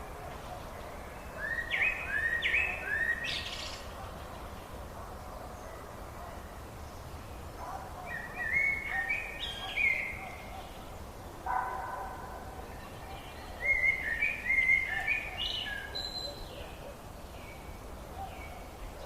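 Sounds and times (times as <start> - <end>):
low background noise: 0.0 - 19.0
songbird singing: 0.0 - 19.0.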